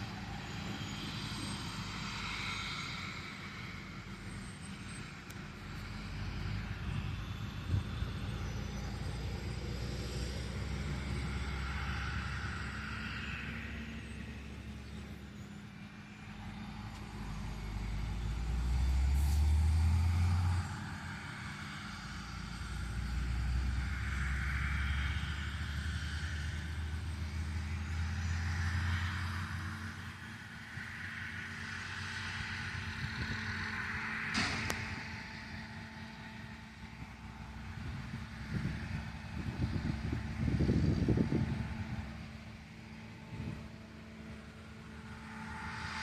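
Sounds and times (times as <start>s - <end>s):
deep rumble of passing machines: 0.0s - 46.0s
diesel engine drone: 0.0s - 46.0s.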